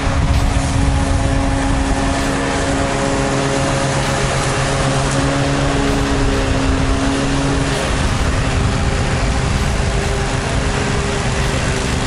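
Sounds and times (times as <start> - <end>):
mechanical hum with held tones: 0.0 - 12.0.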